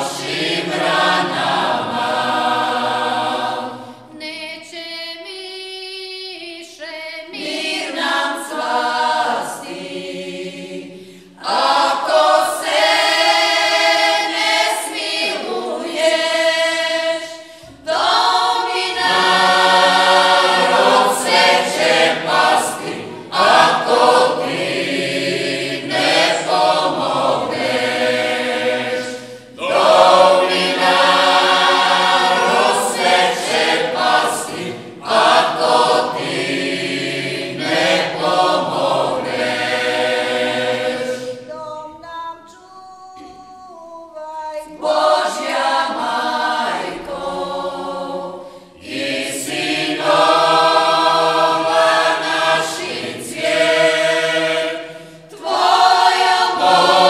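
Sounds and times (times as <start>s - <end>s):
folk vocal group singing a cappella: 0.0s - 57.0s.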